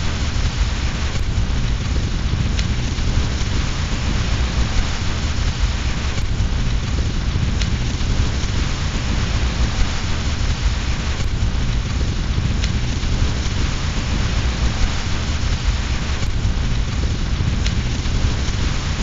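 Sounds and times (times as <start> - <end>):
fireplace fire crackling: 0.0 - 19.0
steady rain with deep rumble: 0.0 - 19.0.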